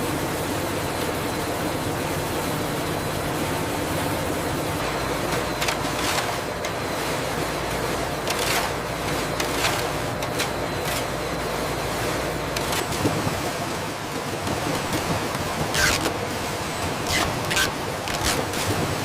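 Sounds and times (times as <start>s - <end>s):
production-line machinery running: 0.0s - 19.0s.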